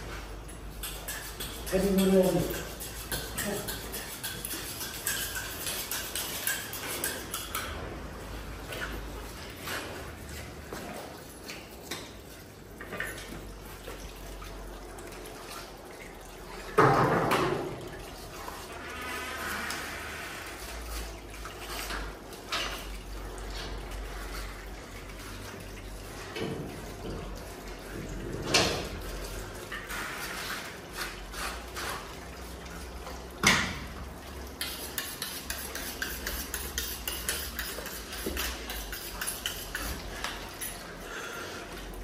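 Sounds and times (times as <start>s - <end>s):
water running over floor: 0.0s - 42.0s.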